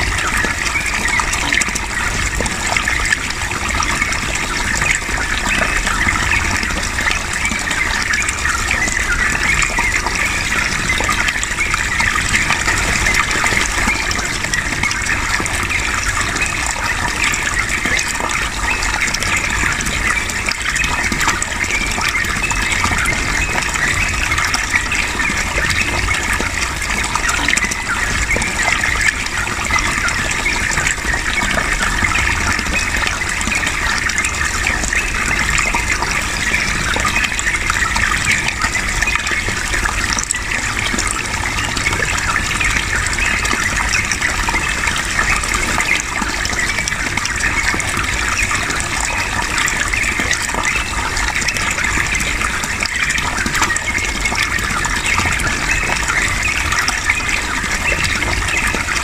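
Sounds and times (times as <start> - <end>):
water flowing and splashing: 0.0 - 59.0.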